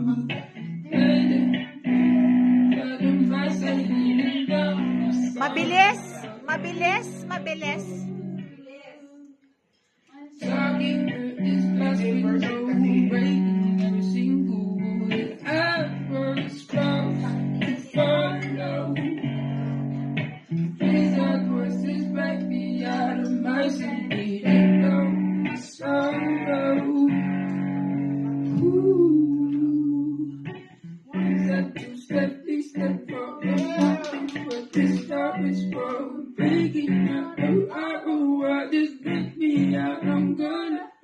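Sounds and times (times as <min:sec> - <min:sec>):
clean electric guitar chords: 0:00.0 - 0:08.5, 0:10.4 - 0:38.0, 0:39.0 - 0:40.7
person singing: 0:00.0 - 0:08.5, 0:10.4 - 0:41.0.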